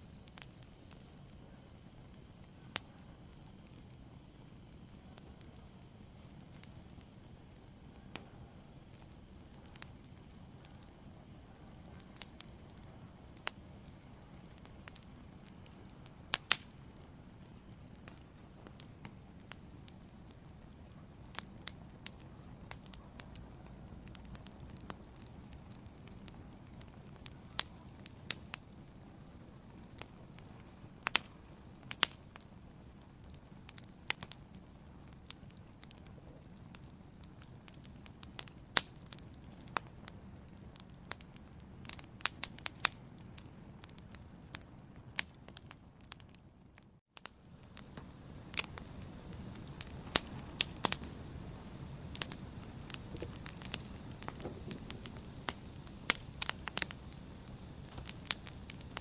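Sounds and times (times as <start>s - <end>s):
fire flames rumbling: 0.0s - 59.0s
logs crackling and popping: 0.0s - 59.0s.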